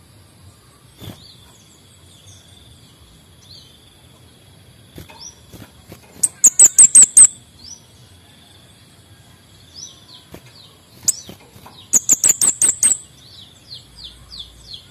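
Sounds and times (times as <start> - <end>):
songbird singing: 0.0 - 14.9.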